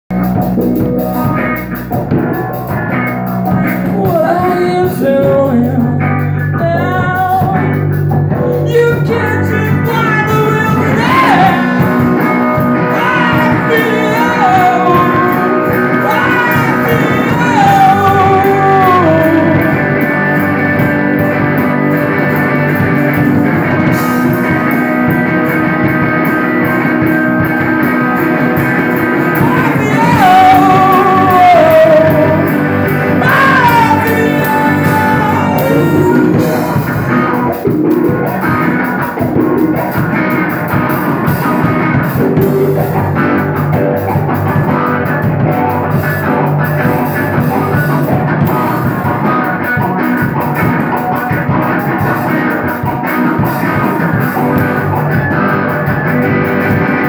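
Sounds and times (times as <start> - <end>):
rock band playing live: 0.1 - 57.0.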